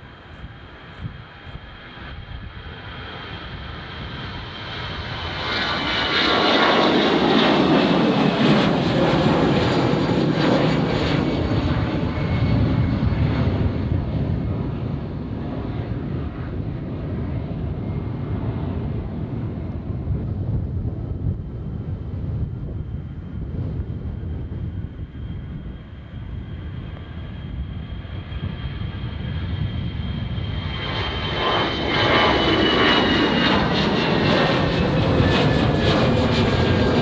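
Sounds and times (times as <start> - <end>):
airliner engines passing by: 0.0 - 37.0.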